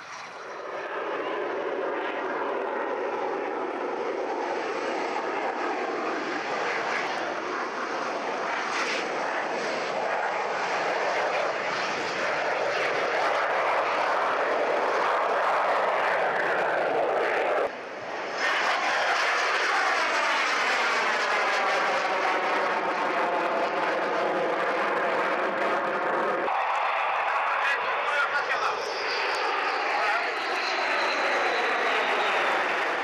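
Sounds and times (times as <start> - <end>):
jet engine roaring: 0.0 - 33.0.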